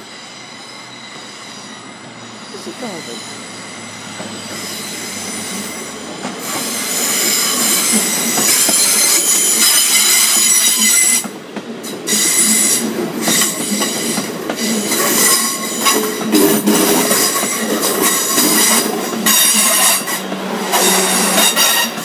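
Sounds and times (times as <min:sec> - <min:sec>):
train wheels squealing: 0:00.0 - 0:11.3, 0:12.1 - 0:22.0
train passing with rumble: 0:00.0 - 0:22.0.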